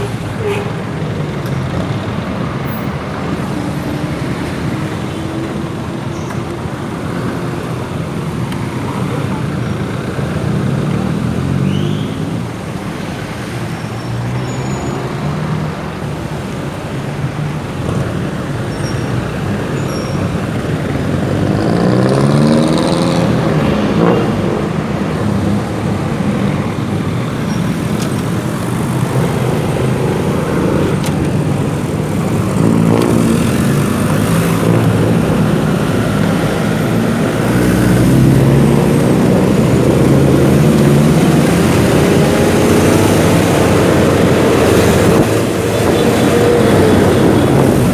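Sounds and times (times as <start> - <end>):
road and traffic noise: 0.0 - 47.9.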